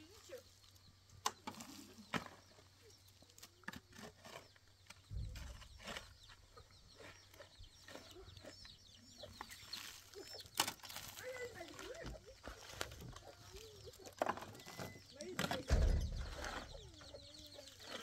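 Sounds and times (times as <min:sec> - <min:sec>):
chickens clucking: 0:01.2 - 0:18.0.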